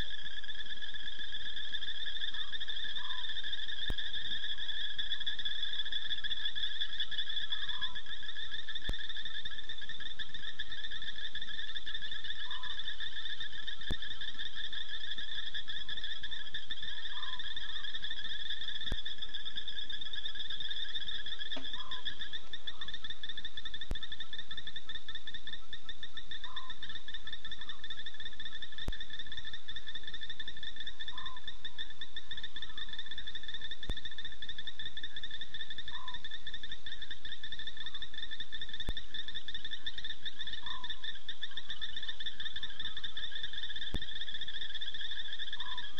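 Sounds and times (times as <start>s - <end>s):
shrill insect trilling: 0.0s - 45.9s.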